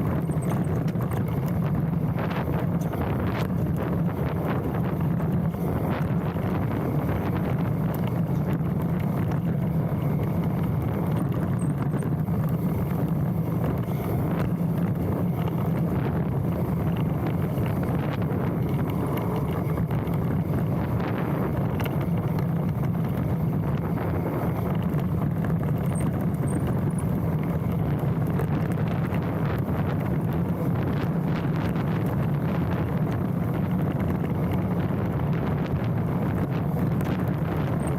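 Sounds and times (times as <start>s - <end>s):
mountain bike tyre roar and rattle: 0.0s - 37.9s
wind on microphone: 0.0s - 37.9s.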